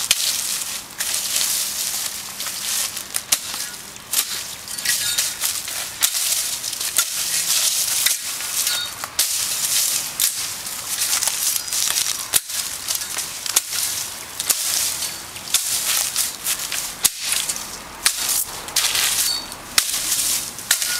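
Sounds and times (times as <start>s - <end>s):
machete chopping brush: 0.0s - 20.9s
rustle of leaves and branches: 0.0s - 20.9s.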